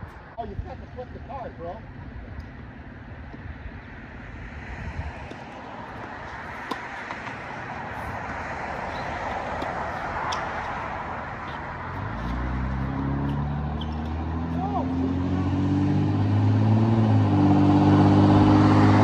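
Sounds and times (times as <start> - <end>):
vehicle road noise: 0.0 - 19.0.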